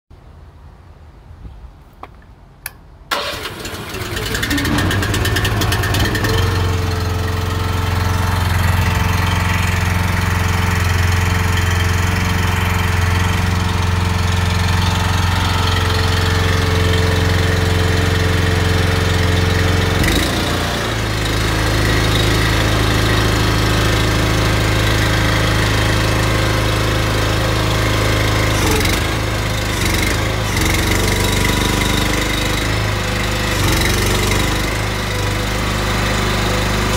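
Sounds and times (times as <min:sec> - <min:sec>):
paving machine engine running: 0:03.1 - 0:36.9.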